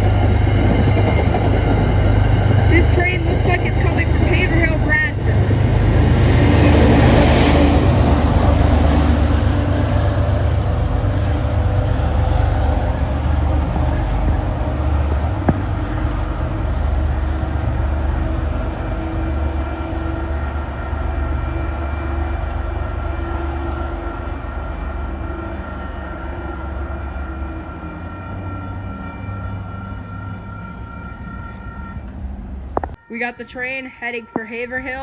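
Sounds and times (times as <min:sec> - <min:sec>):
diesel train passing: 0:00.0 - 0:35.0.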